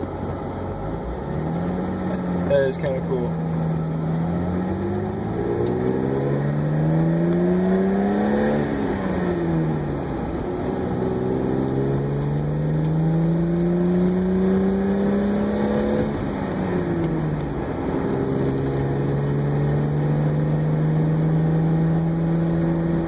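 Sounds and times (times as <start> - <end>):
car engine from inside: 0.0 - 23.0
road noise: 0.0 - 23.0.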